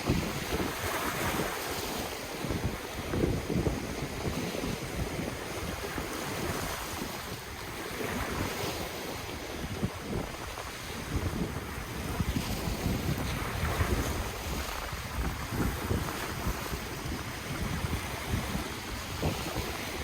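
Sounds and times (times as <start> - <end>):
ocean waves washing on shore: 0.0 - 20.0
wind buffeting microphone: 0.0 - 20.0.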